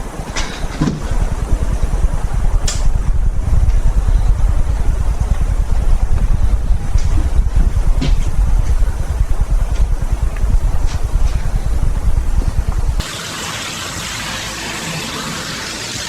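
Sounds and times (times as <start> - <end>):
vehicle engine rumbling: 0.0 - 13.1.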